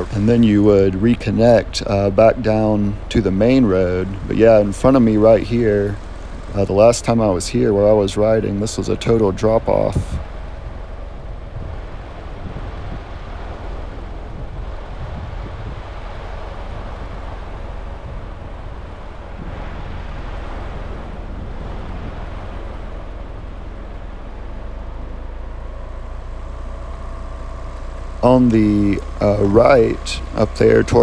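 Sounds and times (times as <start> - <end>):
road and wind noise: 0.0 - 31.0
vehicle engine rumble: 0.0 - 31.0.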